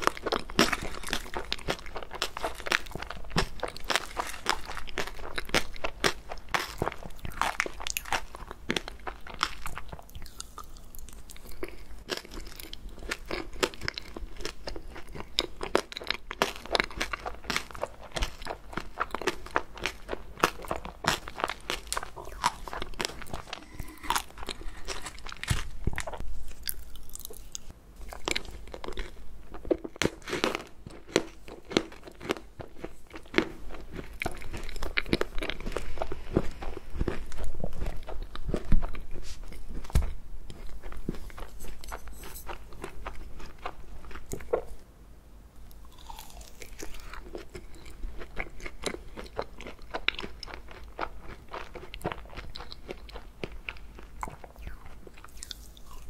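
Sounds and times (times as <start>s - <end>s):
chewing crunchy food: 0.0s - 44.9s, 45.6s - 56.0s.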